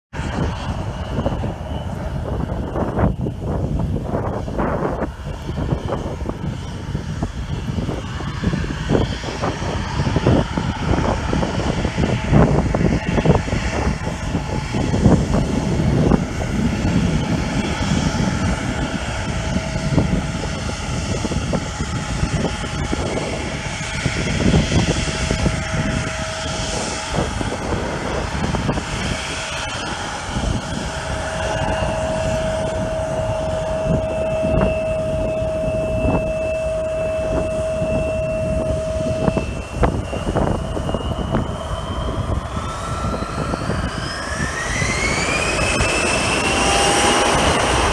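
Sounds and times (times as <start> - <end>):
jet engines whining: 0.1 - 47.9.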